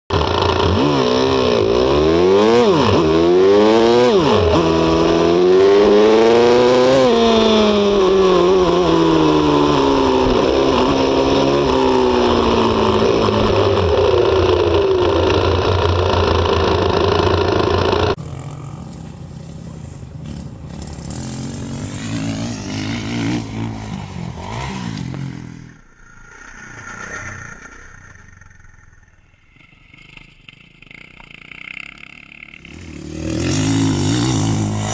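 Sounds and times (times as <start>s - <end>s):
motocross engine revving: 0.1s - 28.5s, 29.6s - 34.9s
distant motorcycle engine: 0.1s - 34.9s.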